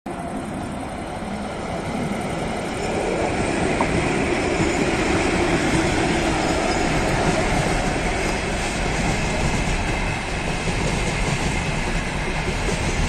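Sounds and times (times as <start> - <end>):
electric locomotive running: 0.1 - 13.0
train wheels on rails: 0.1 - 13.0.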